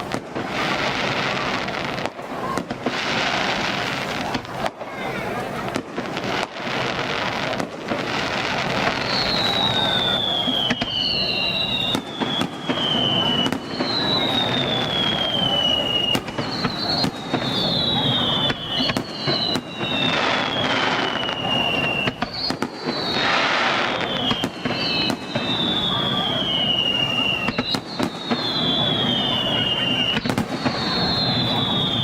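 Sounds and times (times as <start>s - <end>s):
firework bangs: 0.0s - 32.0s
fireworks crackling: 0.0s - 32.0s
firework whistles falling in pitch: 6.3s - 32.0s.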